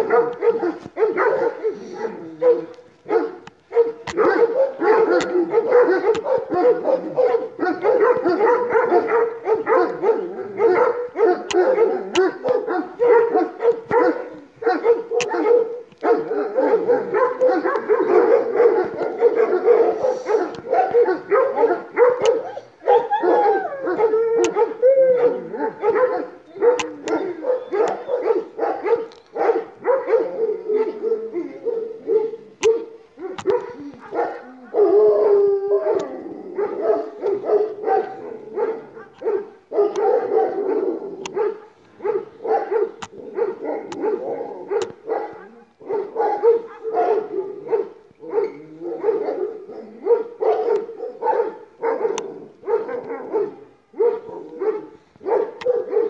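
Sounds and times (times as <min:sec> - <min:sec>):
dogs barking and howling: 0:00.0 - 0:56.0.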